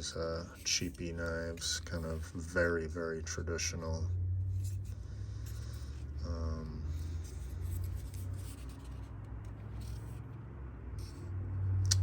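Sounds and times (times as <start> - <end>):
rubbing and scraping handling noise: 0.0 - 10.4, 11.0 - 11.2
steady low hum: 0.0 - 12.0.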